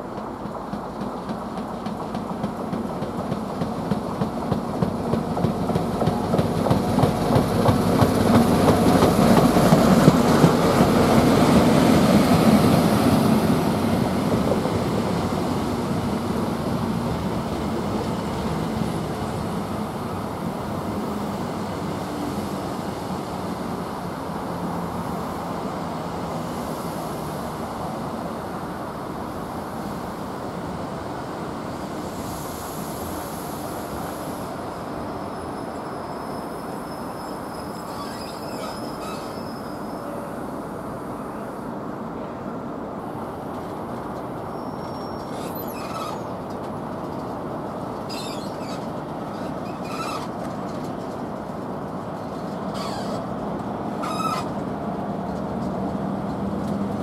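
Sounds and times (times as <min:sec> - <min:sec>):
diesel train passing: 0:00.0 - 0:57.0.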